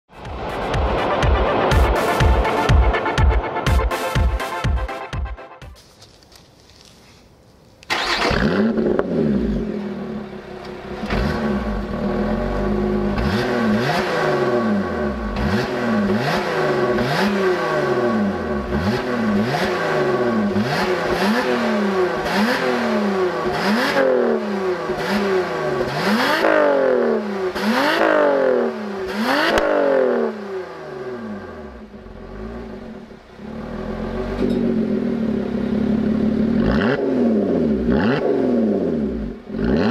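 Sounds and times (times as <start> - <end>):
car engine starting and idling: 7.8 - 39.9
car engine revving: 7.9 - 39.9.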